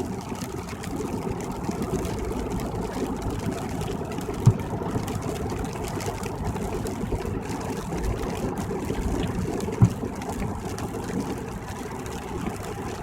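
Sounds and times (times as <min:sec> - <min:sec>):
car cabin road rumble: 0:01.0 - 0:13.0.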